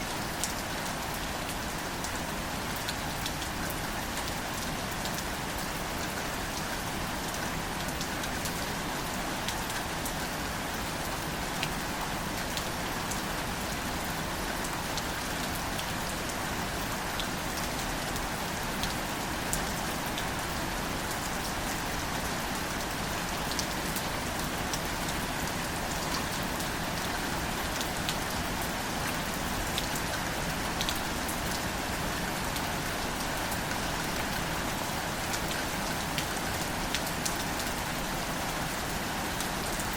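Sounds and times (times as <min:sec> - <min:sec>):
gentle rain on leaves: 0:00.0 - 0:39.9.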